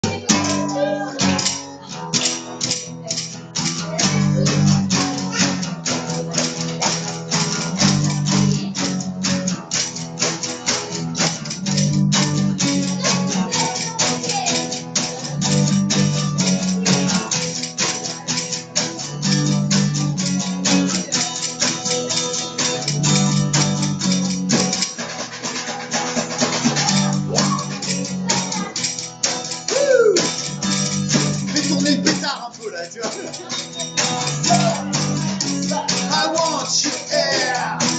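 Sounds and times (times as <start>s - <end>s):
electric bass guitar riff: 0.0s - 25.0s, 26.3s - 37.9s
fast percussive rhythm: 0.0s - 37.9s.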